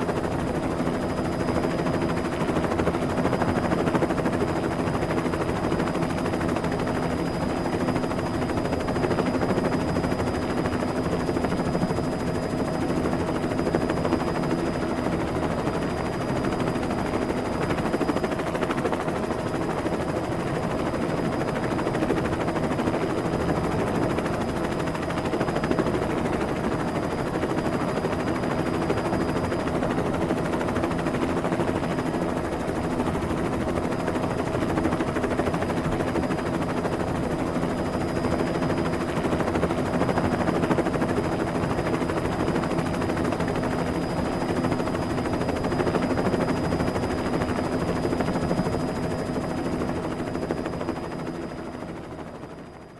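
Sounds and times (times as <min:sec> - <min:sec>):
helicopter noise: 0:00.0 - 0:52.9.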